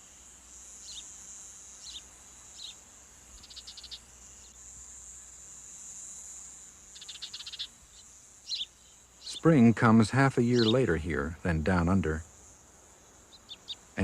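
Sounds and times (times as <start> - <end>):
short insect chirps: 0.0 - 11.4, 12.2 - 14.0
crickets chirring: 0.0 - 14.0.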